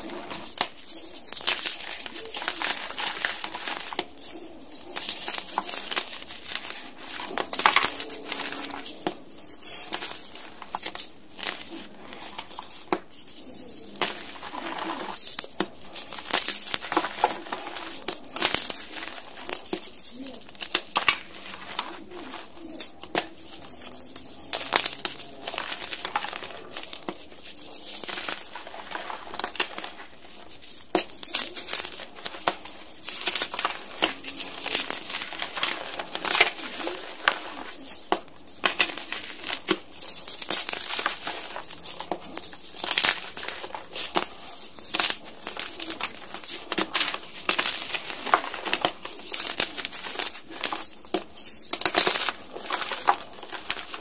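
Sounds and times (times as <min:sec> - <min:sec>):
chalk blocks crunching by hand: 0:00.0 - 0:54.0.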